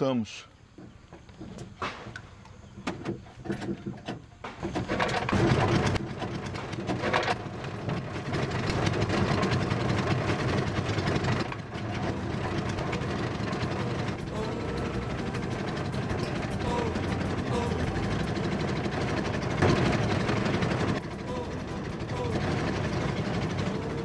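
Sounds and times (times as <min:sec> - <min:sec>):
small boat motor running: 0:04.6 - 0:24.0.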